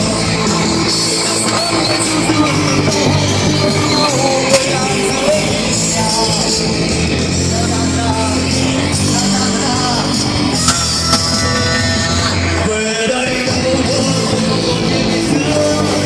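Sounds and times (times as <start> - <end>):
bass guitar: 0.0 - 16.0
drums: 0.0 - 16.0
electric guitar: 0.0 - 16.0
person singing: 0.0 - 16.0.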